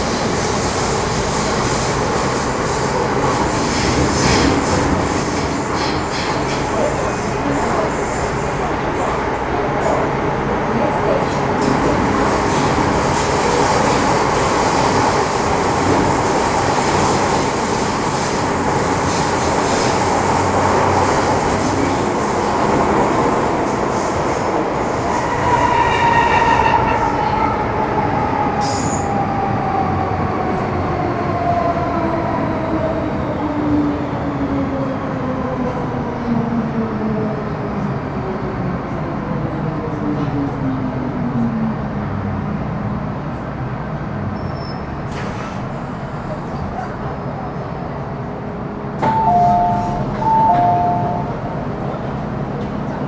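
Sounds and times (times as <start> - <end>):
train wheels rumbling in tunnel: 0.0 - 53.0.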